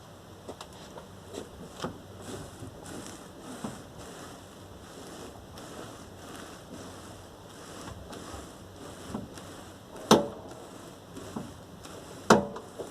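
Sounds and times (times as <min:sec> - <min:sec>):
car engine running: 0:01.2 - 0:12.9.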